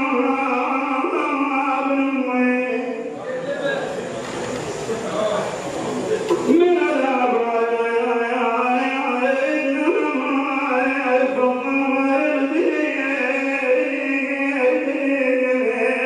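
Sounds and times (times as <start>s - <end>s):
man chanting: 0.0s - 4.0s, 5.0s - 16.0s.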